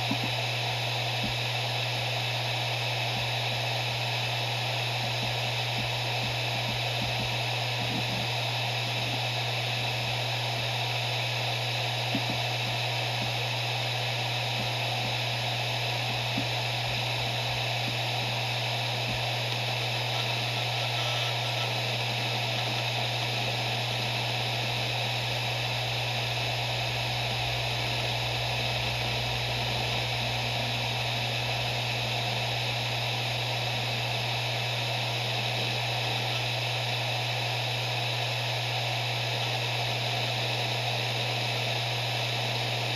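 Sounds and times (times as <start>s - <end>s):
hard drive spinning: 0.0s - 42.9s.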